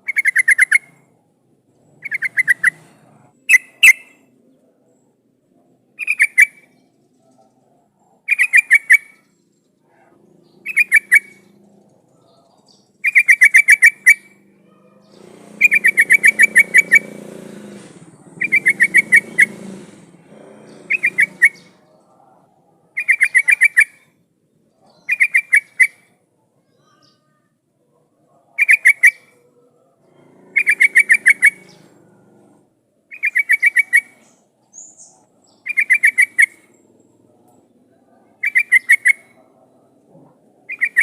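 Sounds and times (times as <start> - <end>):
bulbul chattering song: 0.0 - 1.3, 1.9 - 4.6, 5.9 - 22.2, 23.0 - 27.3, 28.5 - 41.0.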